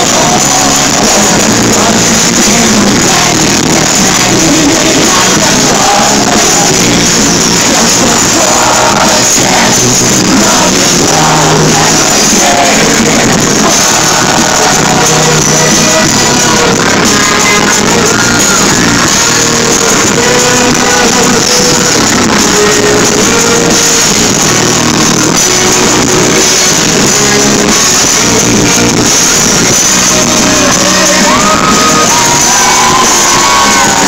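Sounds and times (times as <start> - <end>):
live pop-rock music with singing: 0.0 - 34.0.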